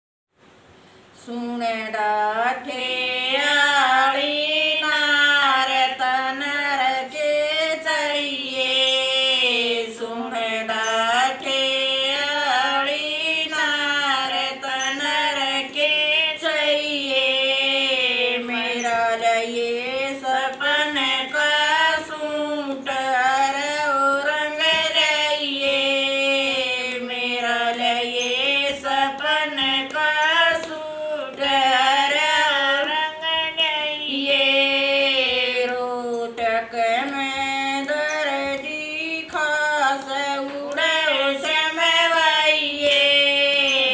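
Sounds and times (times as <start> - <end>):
women singing in unison: 1.2 - 43.9.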